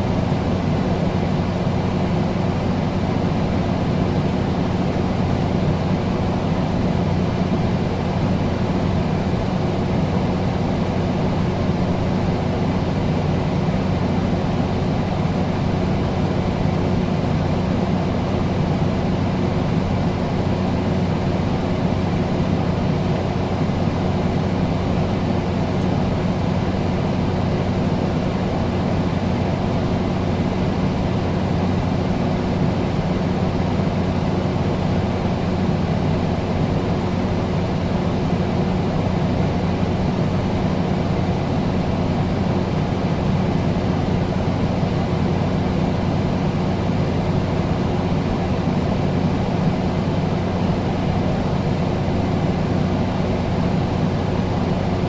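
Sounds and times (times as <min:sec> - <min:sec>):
air conditioner running: 0:00.0 - 0:55.0.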